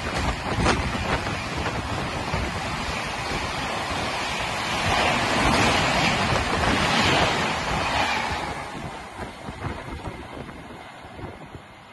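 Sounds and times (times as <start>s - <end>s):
rush of air and wheel noise: 0.0s - 11.9s
train coaches passing at speed: 0.0s - 11.9s.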